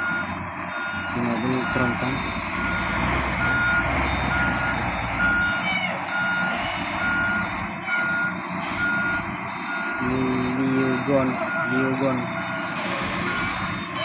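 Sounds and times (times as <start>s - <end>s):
diesel engine running: 0.0s - 14.0s
reversing alarm beeping: 0.0s - 14.0s.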